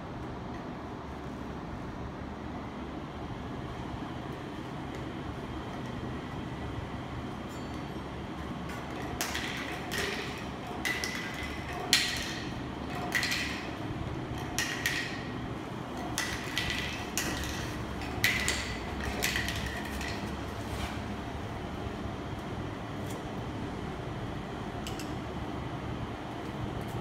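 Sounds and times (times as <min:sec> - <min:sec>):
machine fans and conveyor noise: 0:00.0 - 0:27.0.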